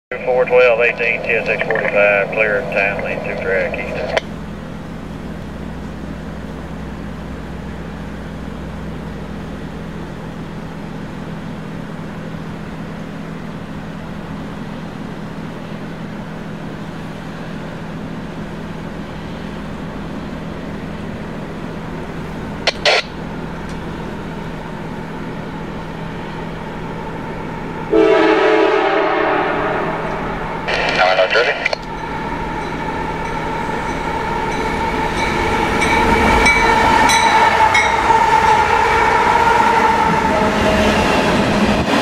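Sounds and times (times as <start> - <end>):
distant freight train hum: 0.1 - 42.0.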